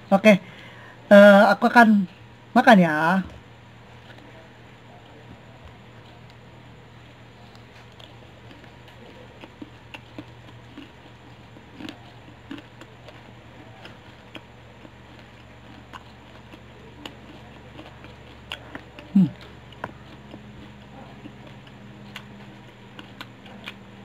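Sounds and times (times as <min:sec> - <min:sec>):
steady low hum: 0:00.0 - 0:24.0
person chewing crunchy food: 0:03.4 - 0:24.0.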